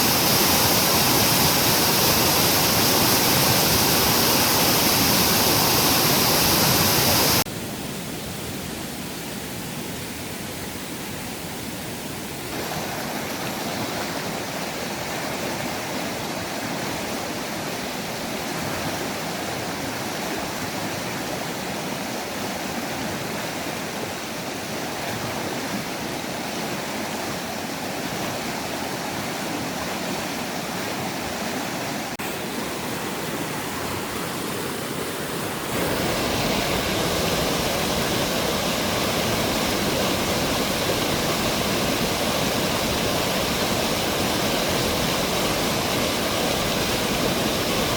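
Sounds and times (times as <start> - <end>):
mountain stream rushing: 0.0 - 47.9.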